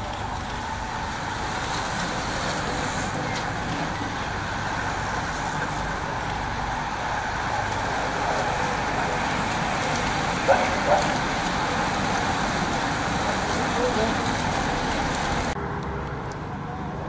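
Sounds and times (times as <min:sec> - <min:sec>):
bicycles whirring past: 0:00.0 - 0:15.6.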